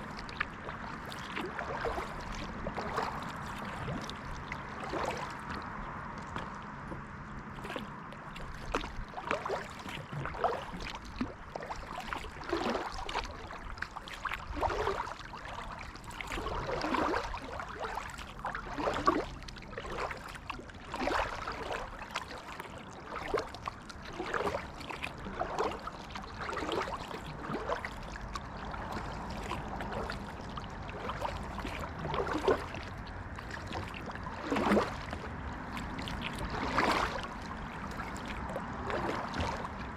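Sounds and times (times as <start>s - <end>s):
paddle splashing in water: 0.0s - 39.9s
water trickling and gurgling: 0.0s - 39.9s.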